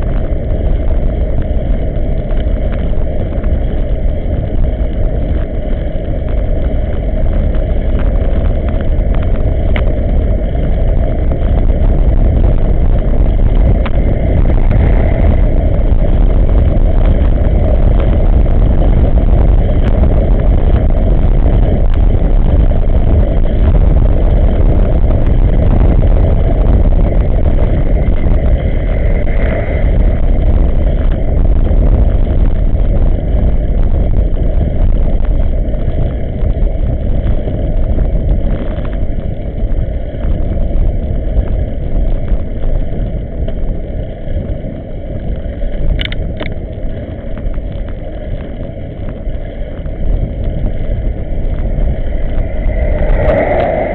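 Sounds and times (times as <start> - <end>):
tyre and road rumble: 0.0 - 53.9
wind buffeting microphone: 0.0 - 53.9.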